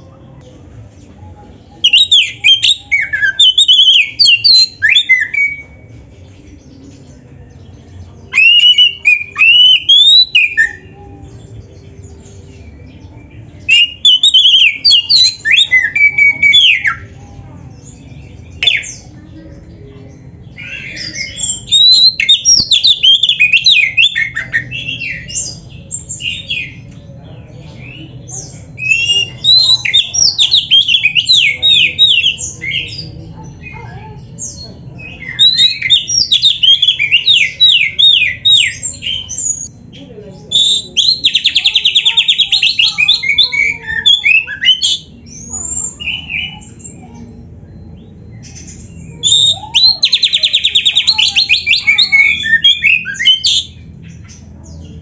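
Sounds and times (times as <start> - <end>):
bird singing whistled notes: 1.8 - 6.0, 7.4 - 17.2, 20.1 - 26.9, 27.8 - 33.0, 34.4 - 39.8, 40.5 - 55.0.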